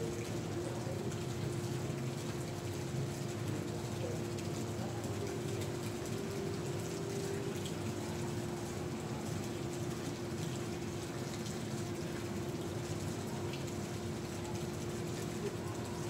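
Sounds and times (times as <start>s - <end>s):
constant background hiss: 0.0s - 16.0s.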